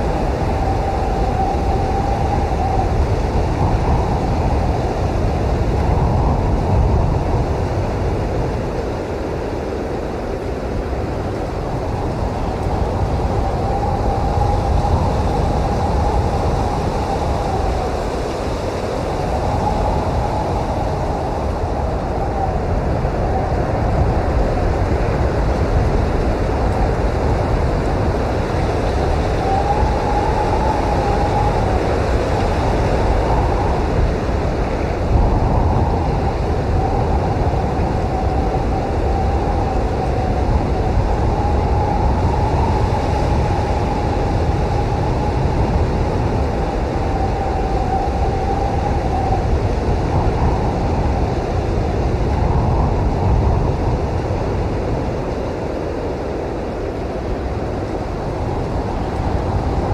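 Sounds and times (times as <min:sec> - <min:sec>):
wavering wind howl: 0:00.0 - 0:59.9
wind blowing hard: 0:00.0 - 0:59.9.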